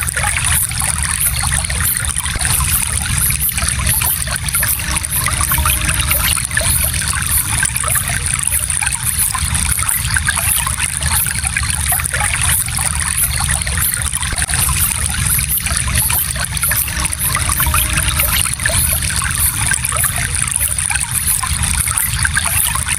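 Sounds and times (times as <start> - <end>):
stream water babbling over rocks: 0.0 - 22.9.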